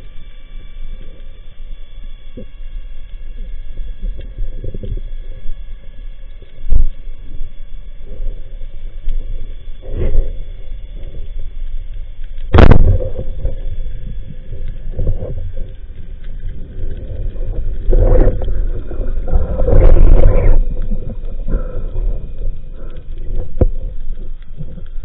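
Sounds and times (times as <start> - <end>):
muffled underwater rumbling and knocking: 0.0 - 25.0.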